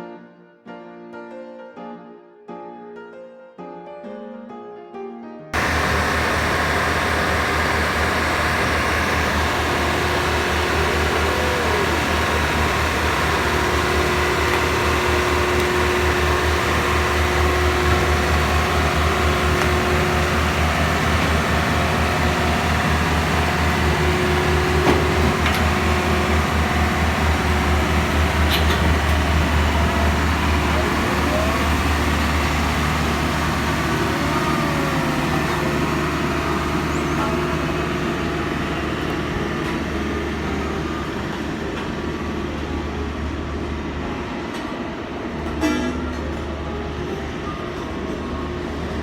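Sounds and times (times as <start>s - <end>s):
diesel engine droning: 5.6s - 49.0s.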